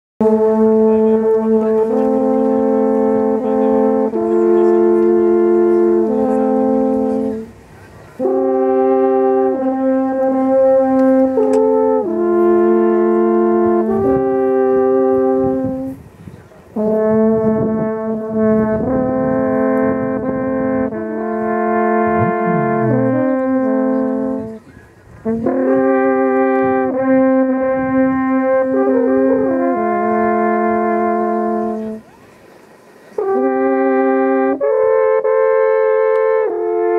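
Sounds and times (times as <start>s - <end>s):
alphorns playing a duet: 0.2s - 16.0s, 16.8s - 32.2s, 33.2s - 36.9s.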